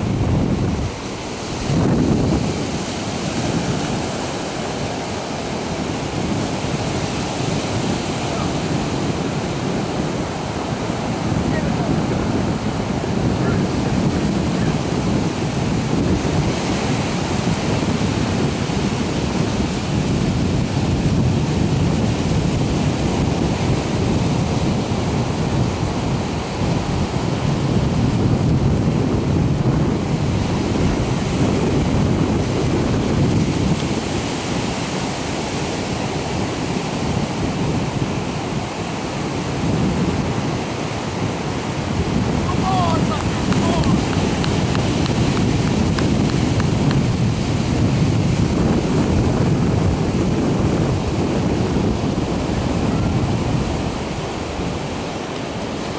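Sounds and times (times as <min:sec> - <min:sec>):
ocean surf breaking: 0:00.0 - 0:55.9
wind rumbling on microphone: 0:00.0 - 0:55.9.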